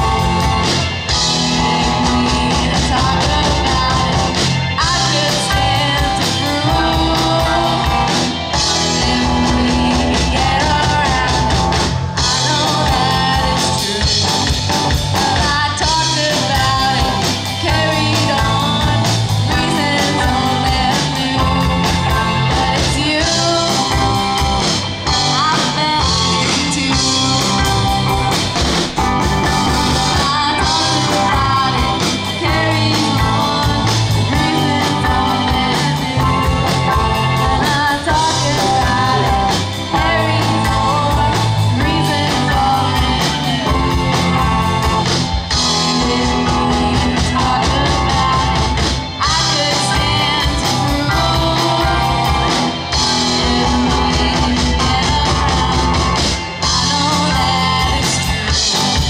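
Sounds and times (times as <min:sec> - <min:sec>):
live rock band: 0:00.0 - 0:59.0
person singing: 0:00.0 - 0:59.0.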